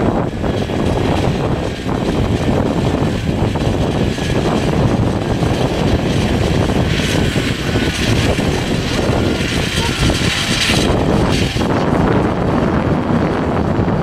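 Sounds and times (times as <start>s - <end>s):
jet airliner rumble and whine: 0.0s - 14.0s.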